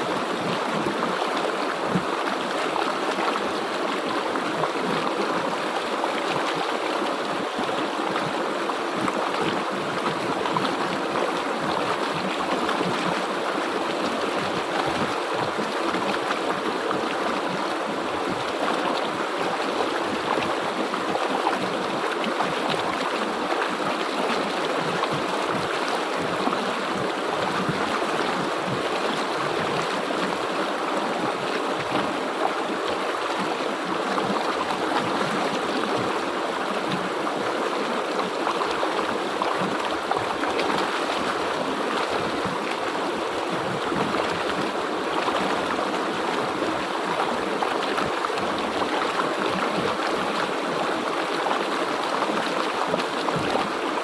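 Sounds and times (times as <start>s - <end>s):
river gurgling over rocks: 0.0s - 54.0s.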